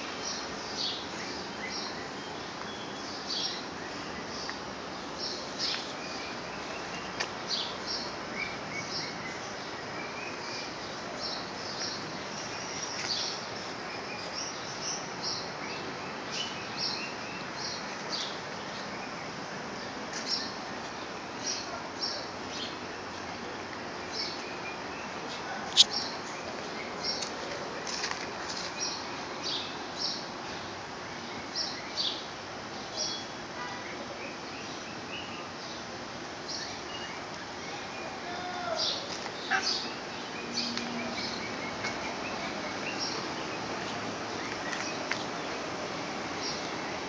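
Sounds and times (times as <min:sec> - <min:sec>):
background hiss: 0:00.0 - 0:47.0
small birds chirping: 0:00.0 - 0:47.0.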